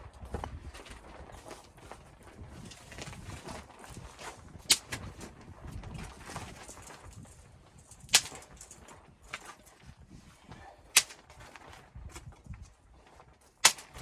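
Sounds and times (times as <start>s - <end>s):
soft crunching and rustling: 0.0s - 14.0s.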